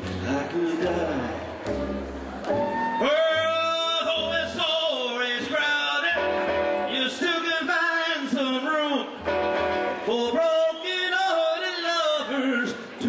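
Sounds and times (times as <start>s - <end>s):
man singing: 0.0s - 1.6s, 3.0s - 9.3s, 10.0s - 13.0s
rockabilly band playing live: 0.0s - 8.6s, 9.2s - 11.3s.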